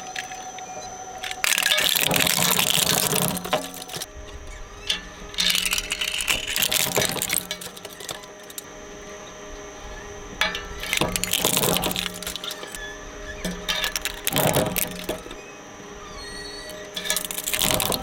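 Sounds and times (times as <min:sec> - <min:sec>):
blades crunching toy cars: 0:00.0 - 0:08.7, 0:10.4 - 0:15.4, 0:16.0 - 0:18.0
shredder humming: 0:00.0 - 0:18.0.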